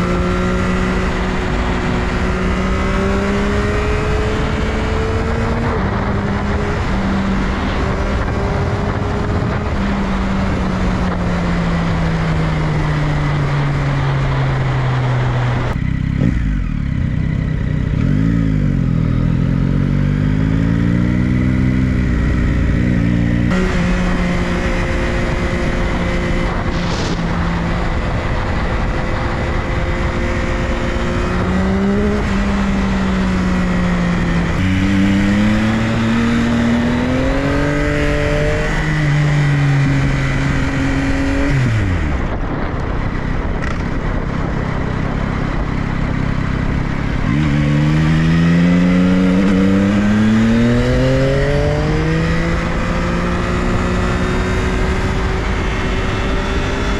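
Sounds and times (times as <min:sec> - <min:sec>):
motorcycle engine revving: 0:00.0 - 0:56.9
rushing wind noise: 0:00.0 - 0:56.9.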